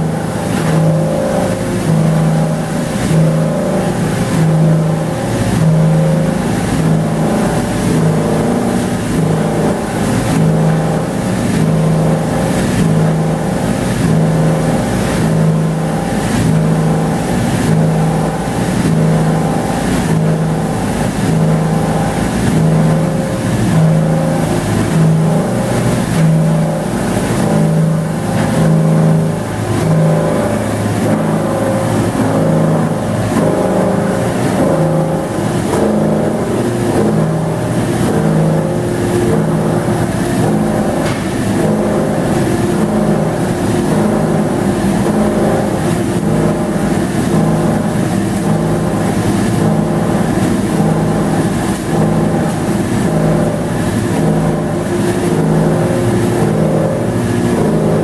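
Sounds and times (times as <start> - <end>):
industrial machinery hum: 0.0 - 58.0.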